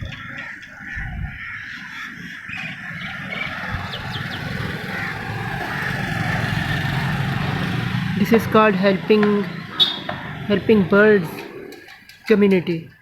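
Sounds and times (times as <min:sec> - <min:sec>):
passing motor traffic rumble: 0:02.4 - 0:13.0.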